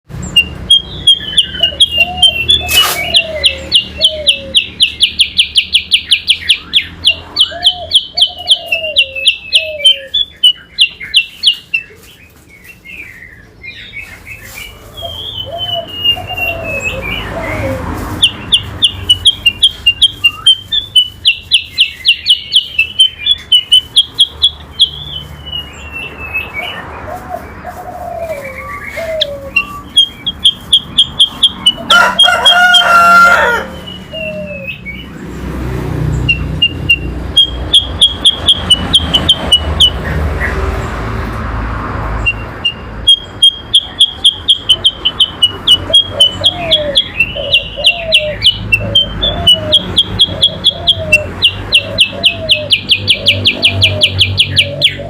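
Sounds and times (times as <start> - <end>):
songbirds chirping rapidly: 0.1 - 55.0.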